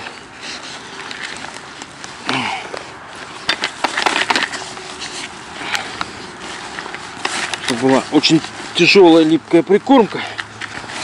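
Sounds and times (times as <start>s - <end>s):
crackly scrapes and clicks: 0.0s - 8.9s
hands kneading gritty bait: 0.0s - 11.0s.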